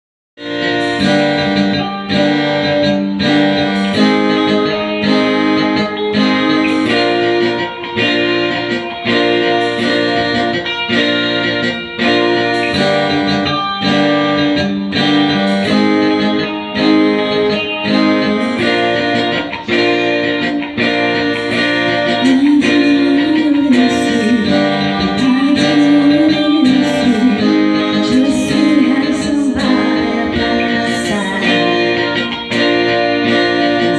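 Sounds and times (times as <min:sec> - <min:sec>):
guitar strumming chords: 0:00.4 - 0:33.9
wavering melody line: 0:00.4 - 0:33.9.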